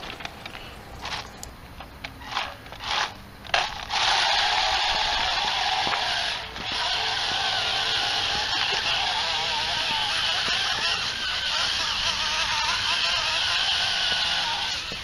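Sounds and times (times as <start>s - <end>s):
tires crunching on gravel: 0.0s - 15.0s
robot motors whirring: 2.2s - 15.0s.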